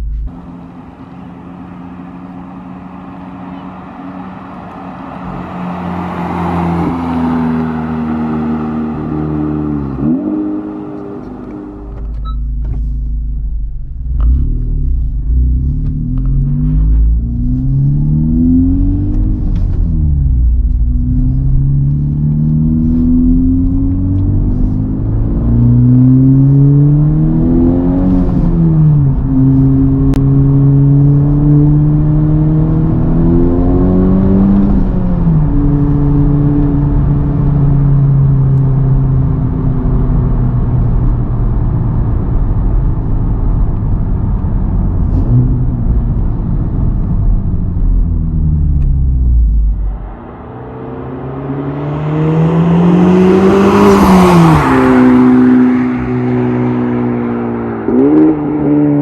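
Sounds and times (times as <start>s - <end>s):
car engine revving under load: 0.0s - 59.0s.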